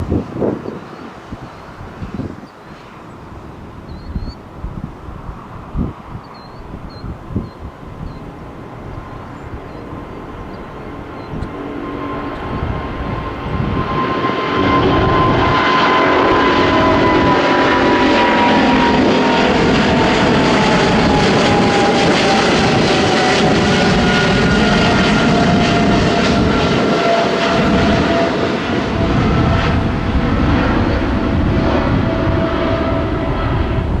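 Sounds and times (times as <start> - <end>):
thin engine whine: 0.1 - 34.0.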